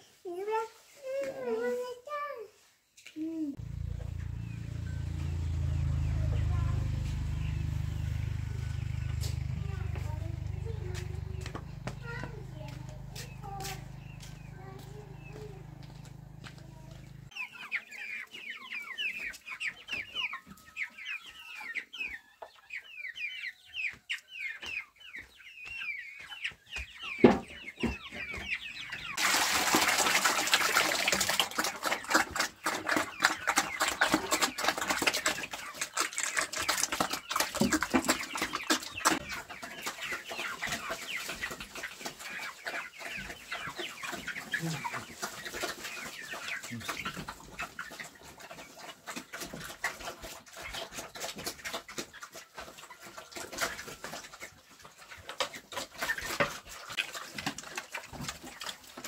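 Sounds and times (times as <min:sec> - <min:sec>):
chickens peeping and clucking: 0:00.0 - 0:59.0.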